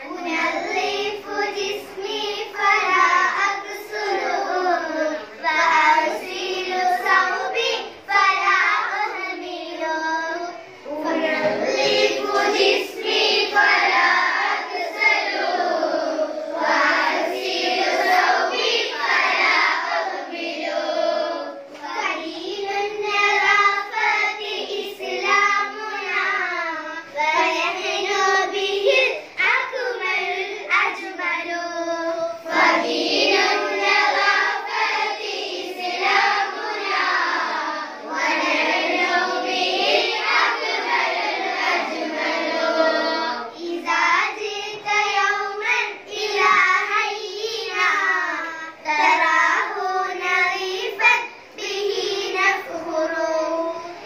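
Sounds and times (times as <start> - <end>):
girls singing together: 0.0 - 54.0.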